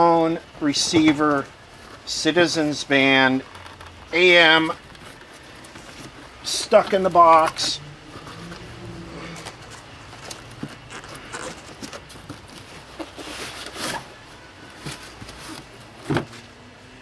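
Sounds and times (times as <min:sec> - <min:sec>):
cardboard scraping and rustling: 0:00.6 - 0:16.6.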